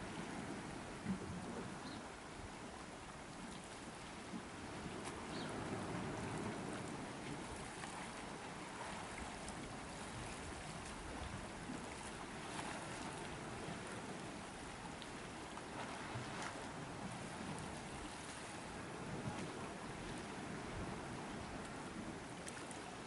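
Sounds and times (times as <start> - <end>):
moving sea water: 0.0 - 23.0
wind: 0.0 - 23.0.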